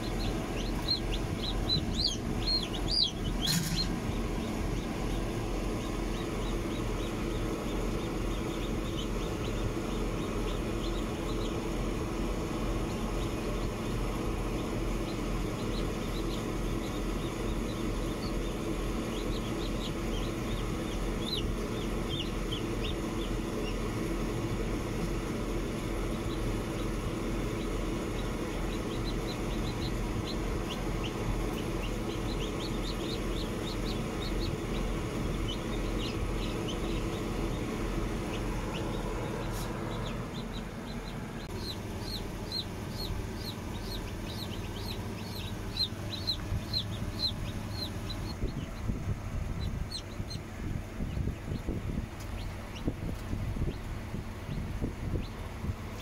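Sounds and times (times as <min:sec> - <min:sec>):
chicks peeping: 0:00.0 - 0:56.0
incubator fans humming: 0:00.0 - 0:56.0.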